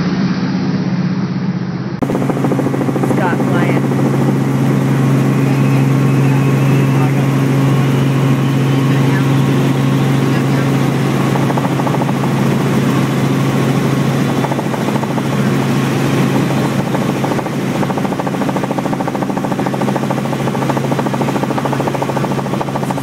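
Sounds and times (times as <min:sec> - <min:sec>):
helicopter engine and rotors droning: 0:00.0 - 0:23.0.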